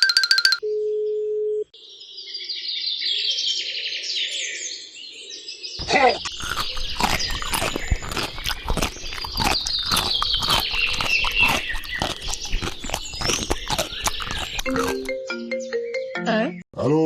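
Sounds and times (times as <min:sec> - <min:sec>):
birds chirping: 0:01.8 - 0:16.6.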